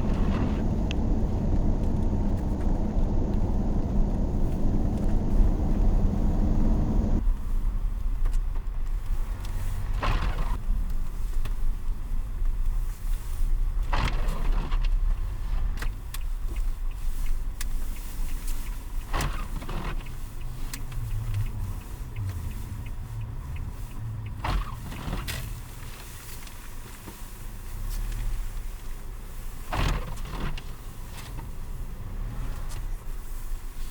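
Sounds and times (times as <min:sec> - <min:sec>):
vehicle low rumble: 0:00.0 - 0:33.9.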